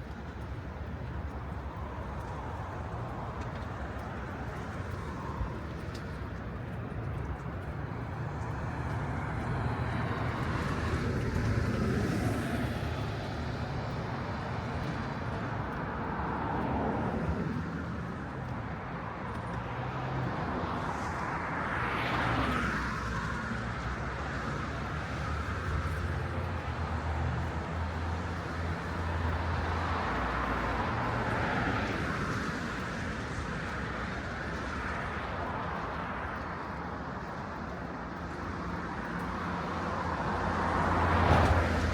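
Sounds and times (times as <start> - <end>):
cars passing: 0.0 - 41.9.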